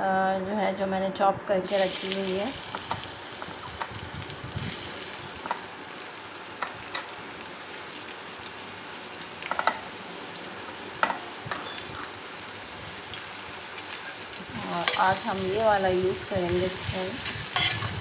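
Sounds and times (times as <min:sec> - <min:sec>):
onions sizzling in hot oil: 0:01.6 - 0:18.0.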